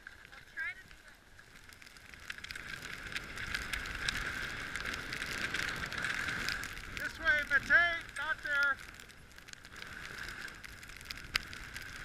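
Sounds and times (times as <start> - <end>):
ski edges clicking: 0.0 - 12.0
skis scraping over snow: 0.0 - 12.0.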